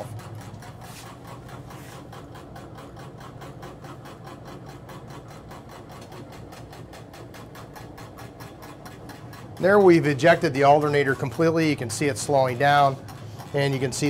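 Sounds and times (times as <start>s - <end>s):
mechanical whir with pulsing beat: 0.0s - 14.0s.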